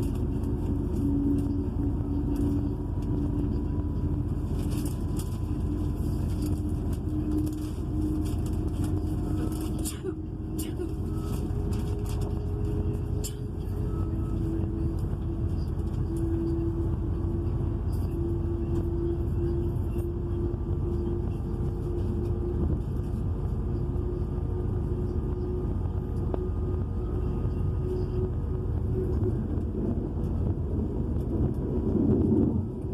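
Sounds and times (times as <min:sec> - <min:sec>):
held hum: 0:00.0 - 0:32.9
train diesel engine rumble: 0:00.0 - 0:32.9.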